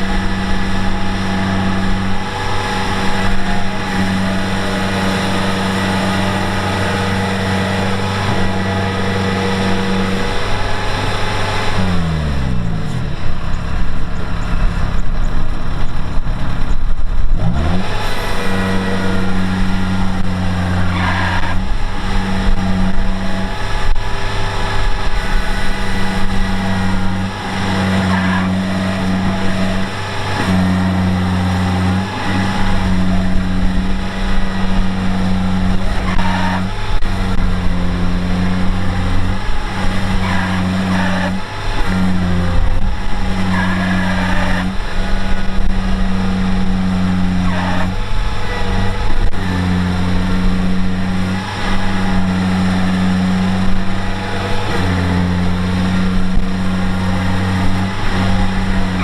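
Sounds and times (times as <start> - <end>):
heavy diesel engine running hard: 0.0 - 59.0.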